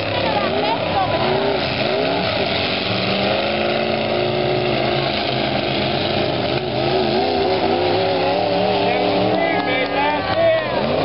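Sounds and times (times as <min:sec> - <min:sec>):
arena noise: 0:00.0 - 0:11.0
truck engines running hard: 0:00.0 - 0:11.0.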